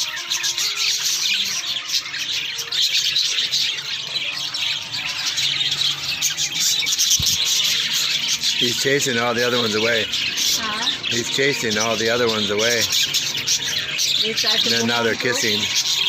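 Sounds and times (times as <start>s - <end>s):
parakeets chattering and chirping: 0.0s - 16.0s.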